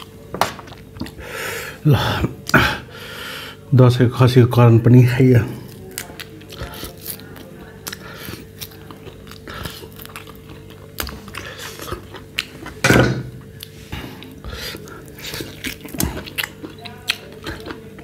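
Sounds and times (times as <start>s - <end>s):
chewing and gnawing on ribs: 0.0s - 2.8s, 5.2s - 18.0s.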